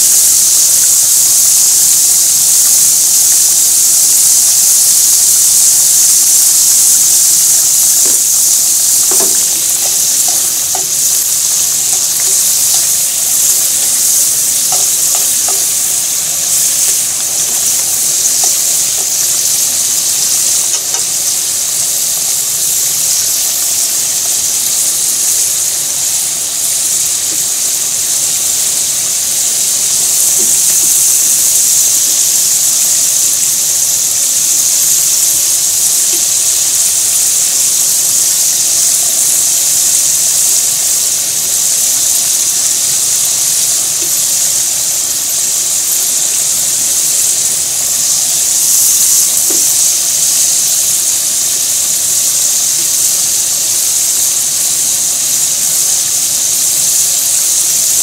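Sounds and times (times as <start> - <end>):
hot oil sizzling: 0.0 - 58.0.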